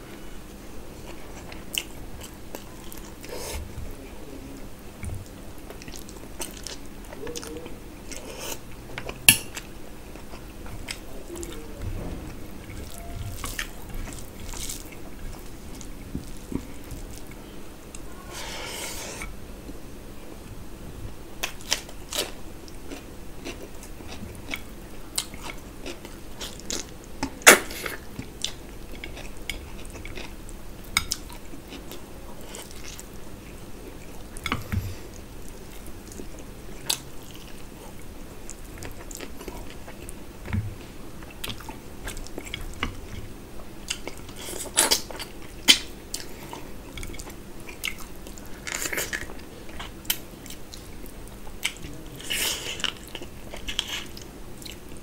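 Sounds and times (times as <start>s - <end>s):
person chewing food: 1.0s - 3.8s, 5.0s - 19.8s, 21.4s - 55.0s.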